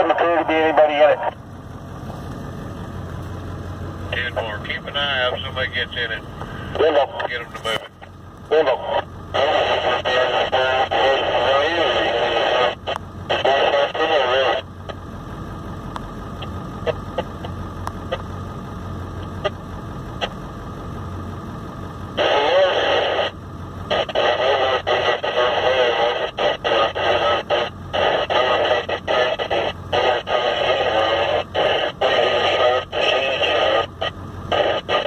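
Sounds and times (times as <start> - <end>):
crackly garbled radio transmission: 0.0 - 35.0
low steady hum: 0.0 - 35.0.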